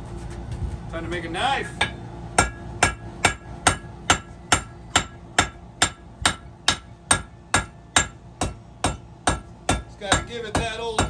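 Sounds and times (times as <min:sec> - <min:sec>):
hammer striking steel on anvil: 0:01.7 - 0:11.0.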